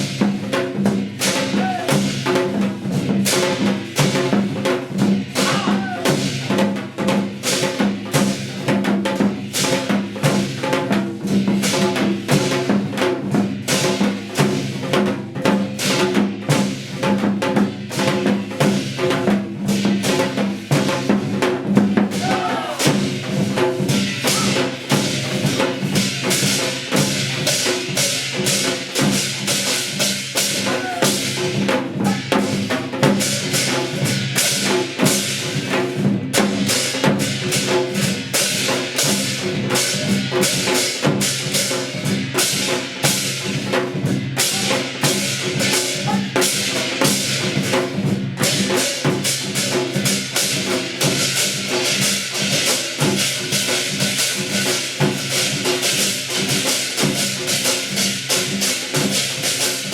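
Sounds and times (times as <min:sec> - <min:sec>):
rapid dense drumming: 0:00.0 - 0:59.9.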